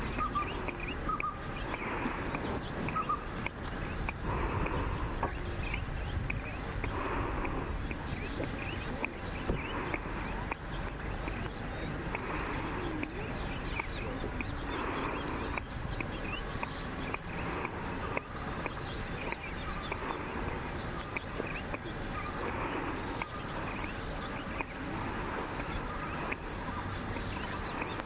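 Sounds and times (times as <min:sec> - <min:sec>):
bird chirps: 0:00.0 - 0:28.0
steady low rumble: 0:00.0 - 0:28.0.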